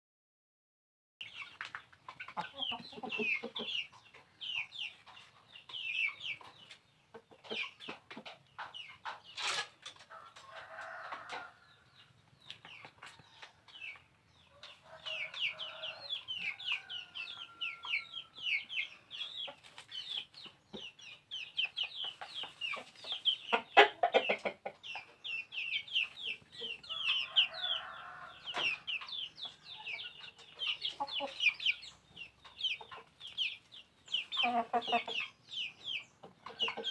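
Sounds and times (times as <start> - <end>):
chicks peeping: 1.2 - 36.9
hens clucking: 1.2 - 36.9.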